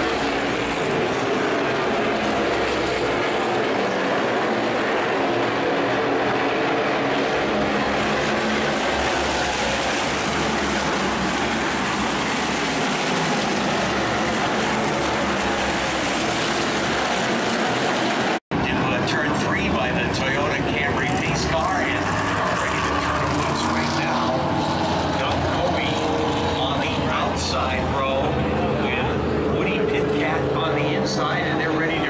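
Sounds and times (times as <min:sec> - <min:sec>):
race car engines at speed: 0:00.0 - 0:32.0.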